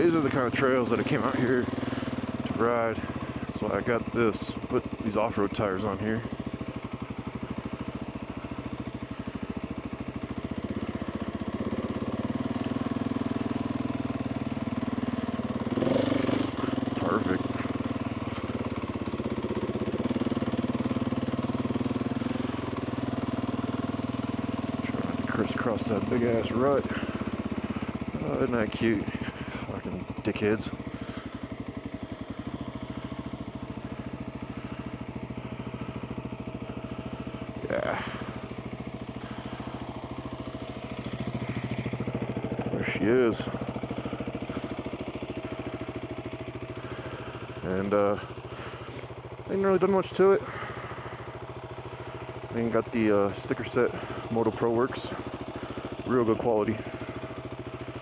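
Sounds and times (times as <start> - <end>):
single-cylinder motorcycle engine: 0.0 - 58.0.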